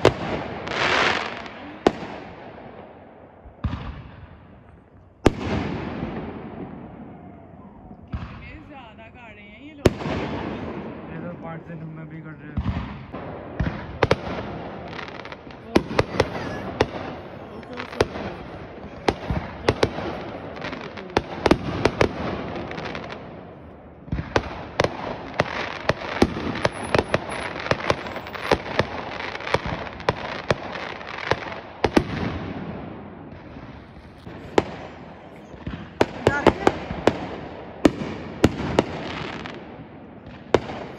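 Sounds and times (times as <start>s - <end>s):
fireworks bangs: 0.0s - 40.9s
fireworks crackle: 0.0s - 40.9s.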